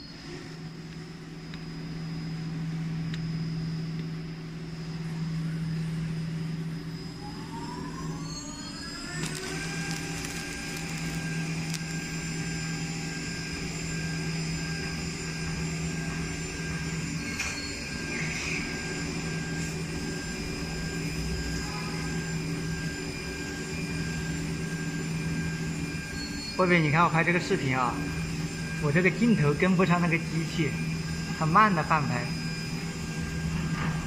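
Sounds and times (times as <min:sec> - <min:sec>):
low machine hum: 0:00.0 - 0:34.0
milling spindle high whine: 0:00.0 - 0:34.0.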